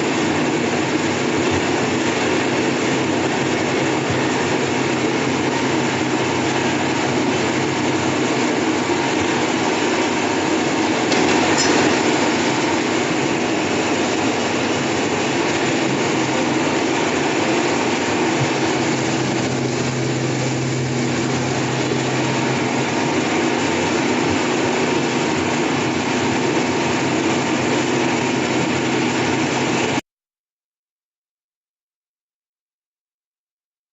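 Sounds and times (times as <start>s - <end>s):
machine rumbling with motor hum: 0.0s - 30.0s.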